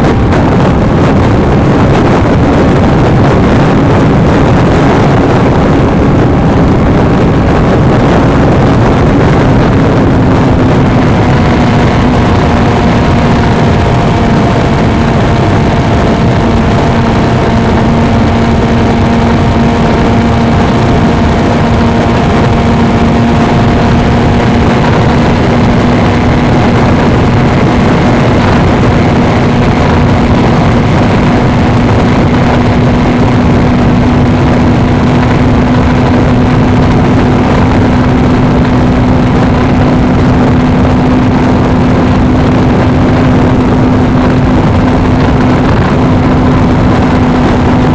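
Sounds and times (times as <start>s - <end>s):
motorcycle engine cruising: 0.0s - 47.9s
wind rush on microphone: 0.0s - 47.9s.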